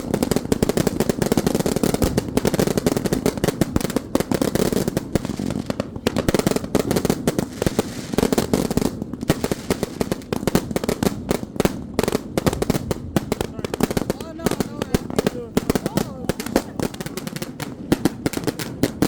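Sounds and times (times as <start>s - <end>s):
firecrackers popping: 0.0s - 19.0s.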